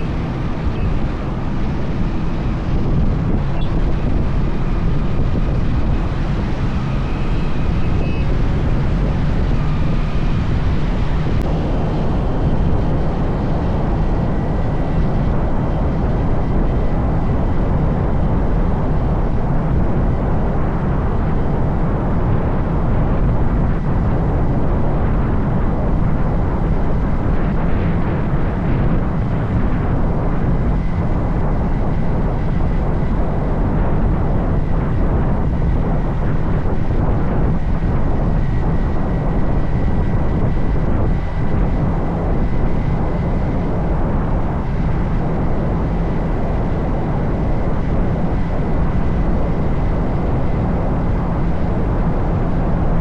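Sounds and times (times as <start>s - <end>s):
road noise: 0.0s - 53.0s
wind buffeting microphone: 0.0s - 53.0s.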